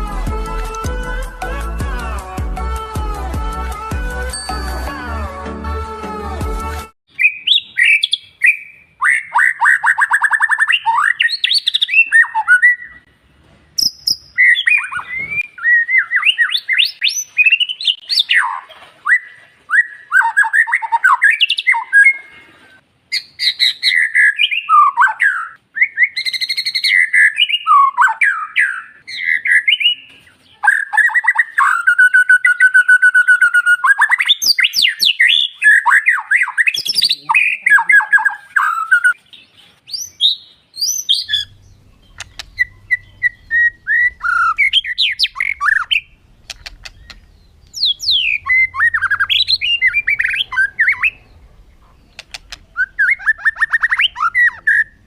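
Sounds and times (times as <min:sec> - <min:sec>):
bird singing whistled phrases: 0:07.1 - 0:13.0, 0:13.8 - 0:39.2, 0:39.9 - 0:51.4, 0:52.1 - 0:55.0.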